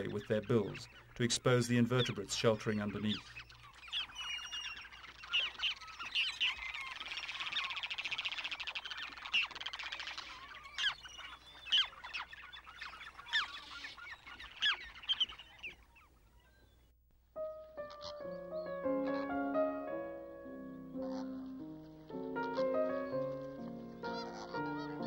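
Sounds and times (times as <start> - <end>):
shorebirds calling: 0.0 - 25.0.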